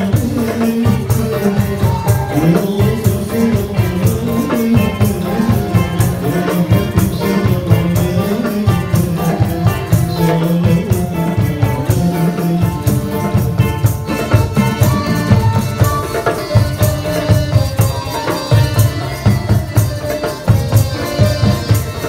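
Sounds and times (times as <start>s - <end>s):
accordion: 0.0s - 22.0s
hand drum rhythm: 0.0s - 22.0s
lute melody: 0.0s - 22.0s.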